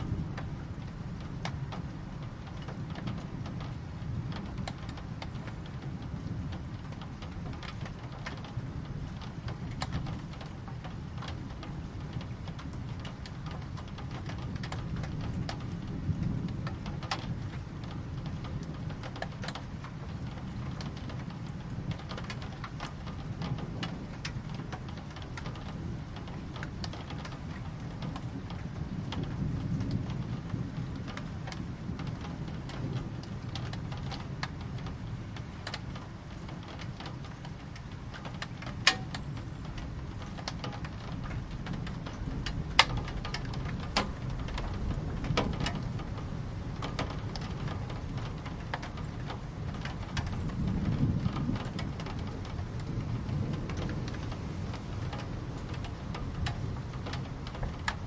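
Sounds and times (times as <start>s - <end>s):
raindrops ticking close by: 0.0s - 58.0s
steady rain: 0.0s - 58.0s.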